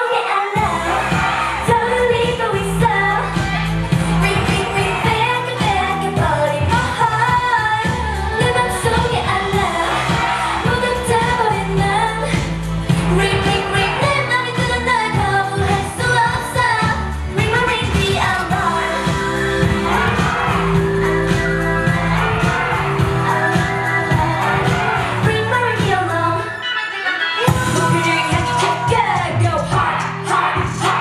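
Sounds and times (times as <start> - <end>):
female vocals singing: 0.0 - 31.0
pop track bass beat: 0.5 - 26.5, 27.4 - 31.0.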